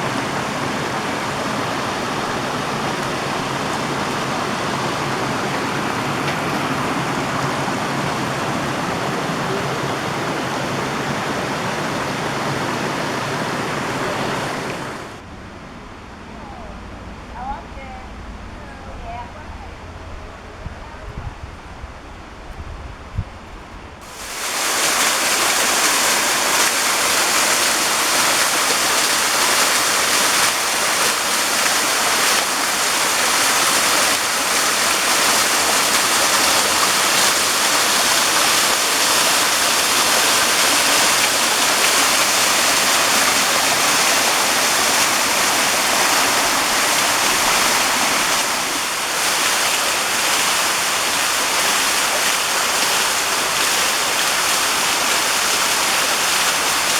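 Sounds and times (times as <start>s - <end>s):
waterfall rushing: 0.0s - 15.2s, 24.0s - 56.9s.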